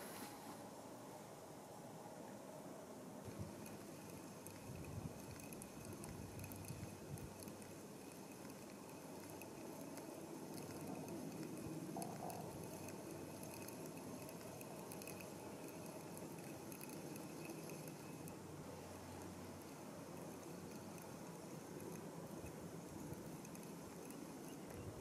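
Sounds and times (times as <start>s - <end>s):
faint ticks: 3.2s - 25.0s.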